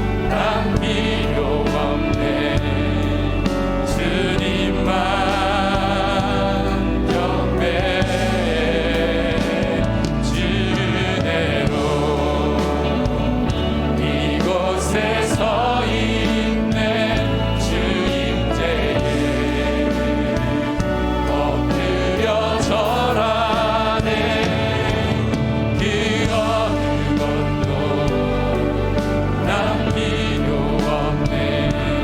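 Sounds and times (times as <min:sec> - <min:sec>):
church band playing worship song: 0:00.0 - 0:32.0
singing voices: 0:00.0 - 0:32.0.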